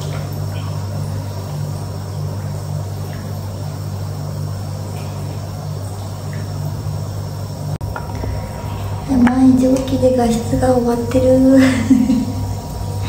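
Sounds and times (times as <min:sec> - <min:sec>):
faint water drips: 0:00.0 - 0:13.0
low machine hum: 0:00.0 - 0:13.0.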